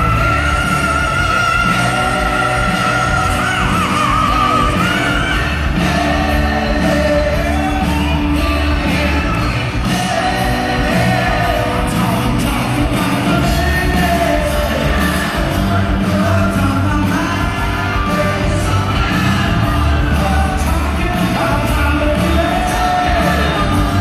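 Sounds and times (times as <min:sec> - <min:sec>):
live rock band playing: 0:00.0 - 0:24.0
man singing: 0:00.0 - 0:24.0.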